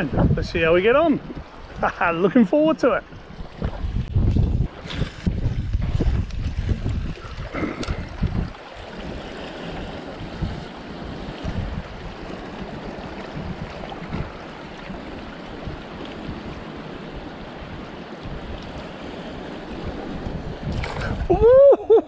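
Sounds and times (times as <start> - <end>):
waves washing against rocks: 0.0 - 21.5
wind buffeting microphone: 0.0 - 22.0.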